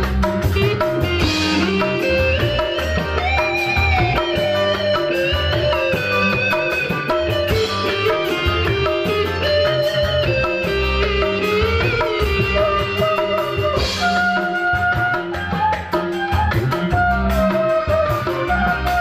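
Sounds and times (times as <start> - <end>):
bass: 0.0 - 19.0
electric guitar melody: 0.0 - 19.0
hand drums: 0.0 - 19.0.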